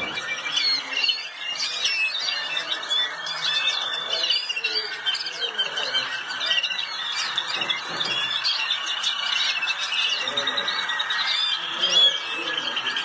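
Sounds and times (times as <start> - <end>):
canaries singing trills: 0.0 - 13.0
steady background noise: 0.0 - 13.0.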